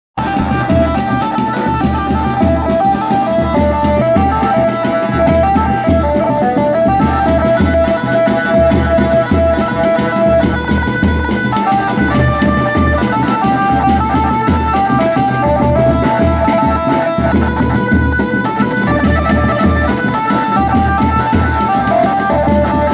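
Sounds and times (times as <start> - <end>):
heavy drum beat: 0.2 - 22.9
wedding band playing: 0.2 - 22.9.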